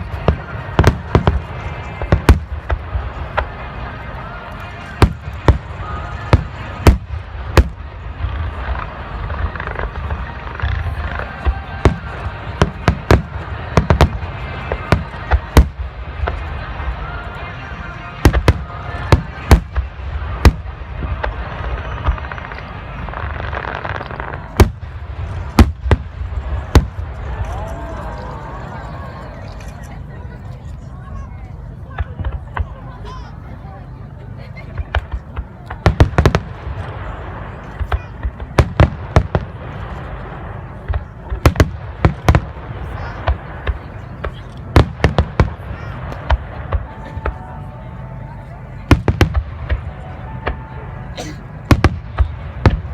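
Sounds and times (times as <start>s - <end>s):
fireworks bangs: 0.0s - 28.8s, 34.7s - 47.6s, 48.8s - 50.8s, 51.6s - 52.9s
fireworks crackling: 0.0s - 52.9s.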